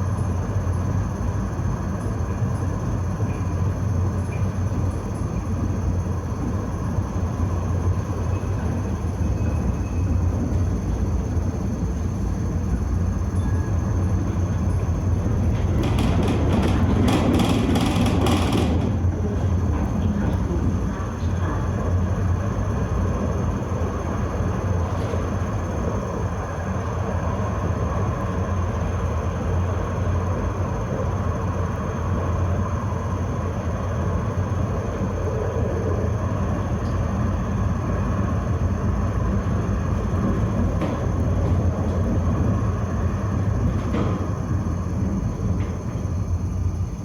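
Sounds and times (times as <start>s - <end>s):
tram rumbling on track: 0.0s - 47.0s.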